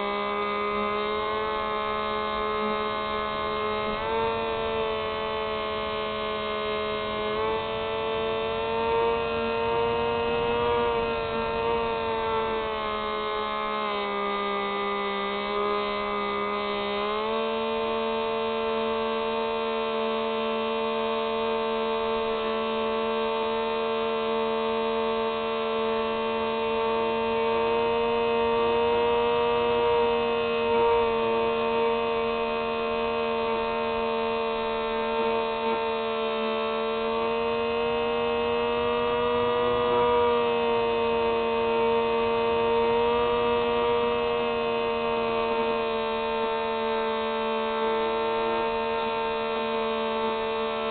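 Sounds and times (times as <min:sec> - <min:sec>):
model plane propeller whine: 0:00.0 - 0:50.9.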